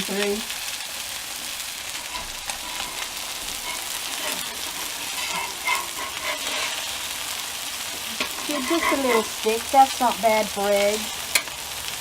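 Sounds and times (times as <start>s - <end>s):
fat crackling and popping: 0.0s - 12.0s
food sizzling on a griddle: 0.0s - 12.0s.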